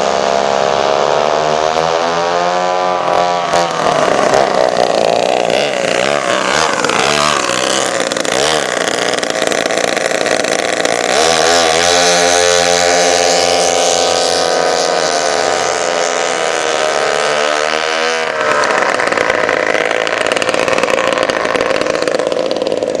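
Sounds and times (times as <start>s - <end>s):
chainsaw engines revving high: 0.0s - 23.0s.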